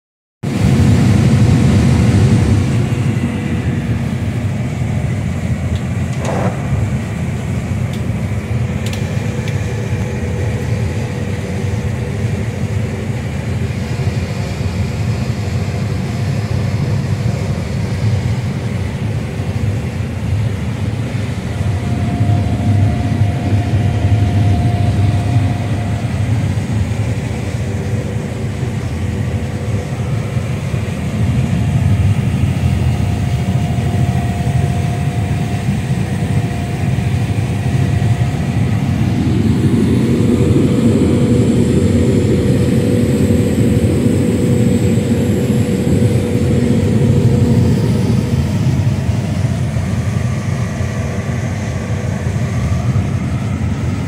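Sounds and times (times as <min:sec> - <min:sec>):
combine harvester engine drone: 0:00.4 - 0:54.0
faint steady whine: 0:02.7 - 0:54.0.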